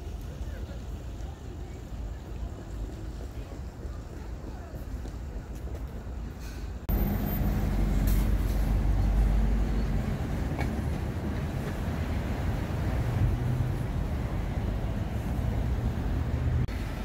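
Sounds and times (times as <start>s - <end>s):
outdoor ambience: 0.0s - 17.0s
traffic rumble of passing cars: 0.0s - 17.0s.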